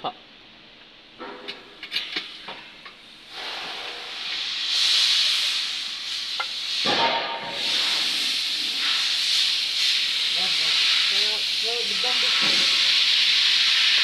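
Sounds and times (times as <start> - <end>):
steady hiss: 1.9 - 14.0.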